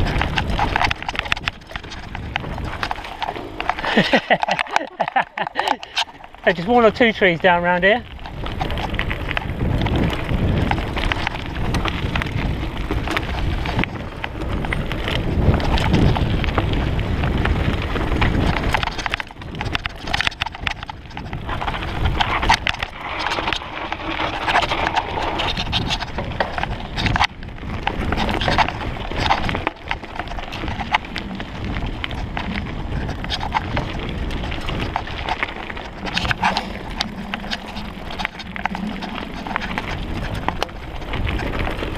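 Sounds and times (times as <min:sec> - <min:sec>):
bike rattling over bumps: 0:00.0 - 0:41.9
bike tyres on dirt: 0:00.0 - 0:41.9
wind on microphone: 0:00.0 - 0:41.9.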